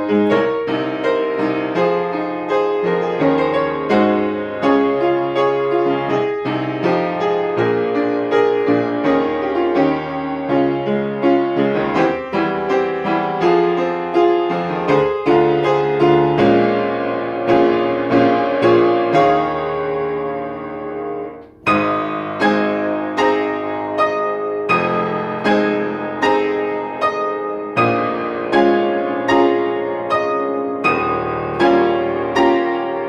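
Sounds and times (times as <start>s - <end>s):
piano playing chords: 0.0s - 33.0s.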